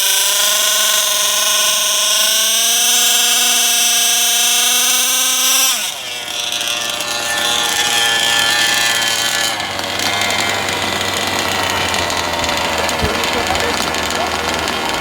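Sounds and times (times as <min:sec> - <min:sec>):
rc car engine whining: 0:00.0 - 0:15.0.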